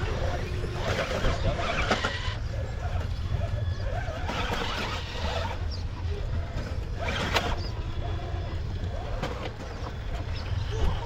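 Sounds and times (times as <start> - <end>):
small motor whirring: 0.0 - 11.0.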